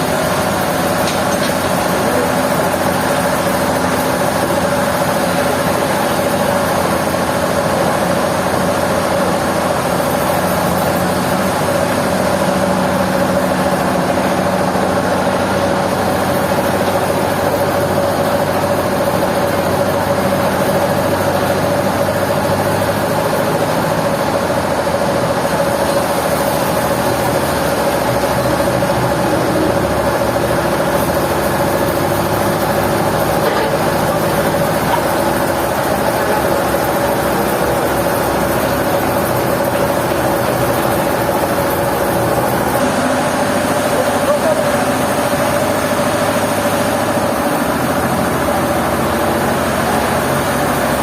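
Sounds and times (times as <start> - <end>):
sawmill machinery humming: 0.0 - 51.0.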